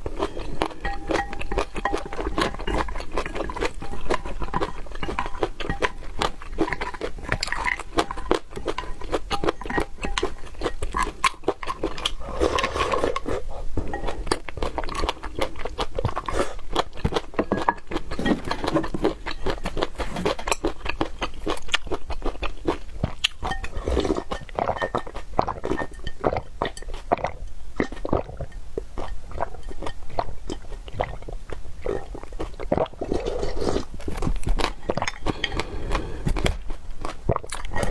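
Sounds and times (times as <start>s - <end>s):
person chewing and crunching food: 0.0s - 37.9s.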